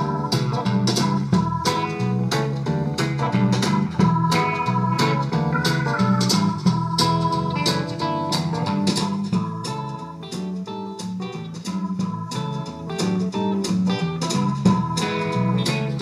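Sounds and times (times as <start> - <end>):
music with steady beat through radio: 0.0 - 16.0.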